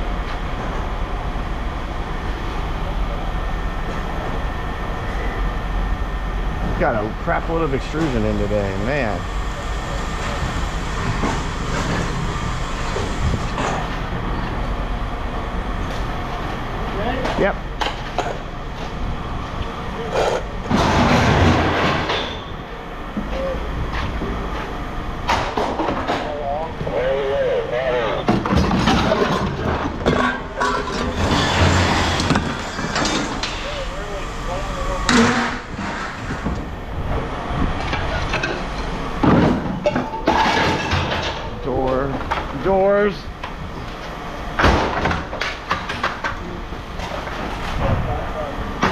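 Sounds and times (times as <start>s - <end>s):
mechanical rumble: 0.0s - 48.9s.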